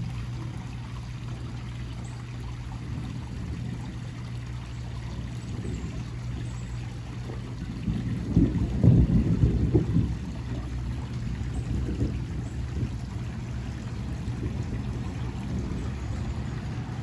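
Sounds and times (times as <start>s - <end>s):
steady low hum: 0.0s - 17.0s
steady rain falling: 0.0s - 17.0s
water running and trickling: 0.0s - 17.0s.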